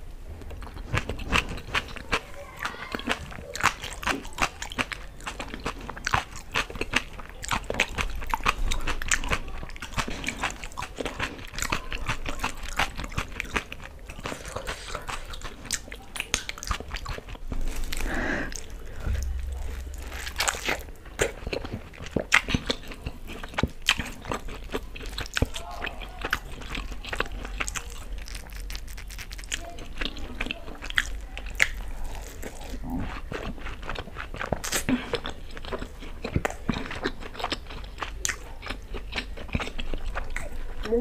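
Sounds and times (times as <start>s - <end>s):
close-miked biting and chewing: 0.3s - 41.0s
mouth clicks and smacks: 2.9s - 40.9s.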